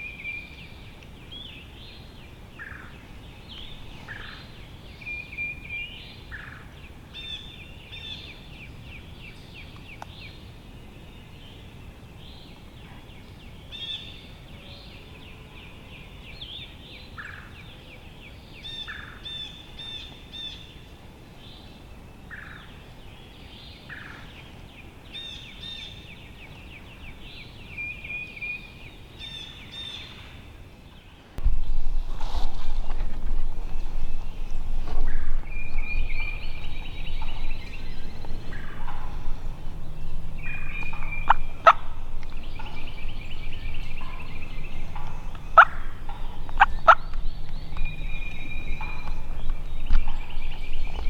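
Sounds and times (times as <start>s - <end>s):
songbirds singing trills: 0.0s - 32.0s, 33.0s - 51.0s
faint background hiss: 0.0s - 51.0s.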